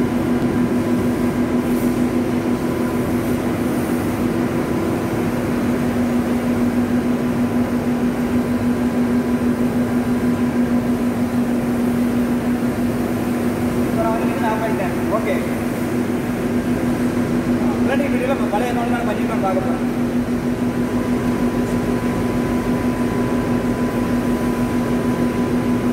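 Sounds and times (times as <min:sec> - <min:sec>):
machinery hum: 0:00.0 - 0:25.9.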